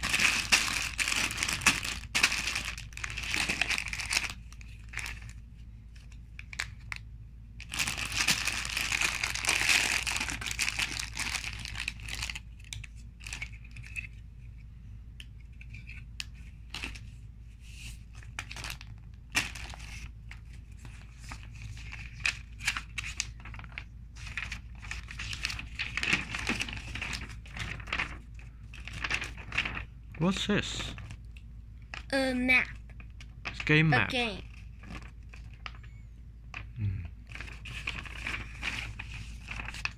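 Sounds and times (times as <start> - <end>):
booklet pages rustling: 0.0 - 7.0, 7.6 - 14.7, 15.3 - 31.2, 31.8 - 36.7, 37.3 - 39.9
plastic bags crinkling: 0.0 - 7.0, 7.6 - 14.0, 18.2 - 31.3, 31.9 - 35.9, 36.5 - 39.9.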